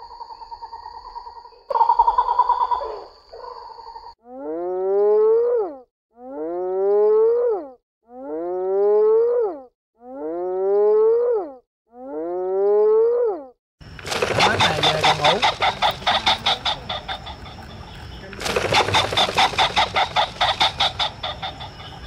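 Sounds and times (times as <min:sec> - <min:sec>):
steady pitched animal sound: 0:00.0 - 0:22.0
rising animal call: 0:04.2 - 0:22.0.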